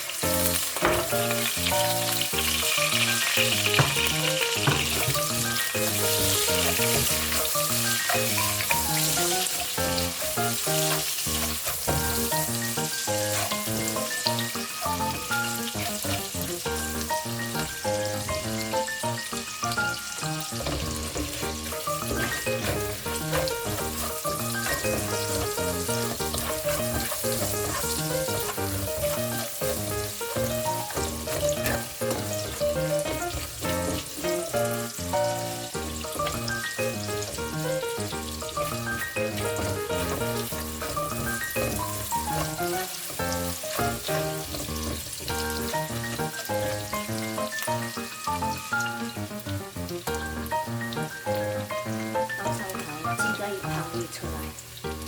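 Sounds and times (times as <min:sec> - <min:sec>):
background music: 0:00.0 - 0:55.0
food sizzling in a pan: 0:00.0 - 0:55.0.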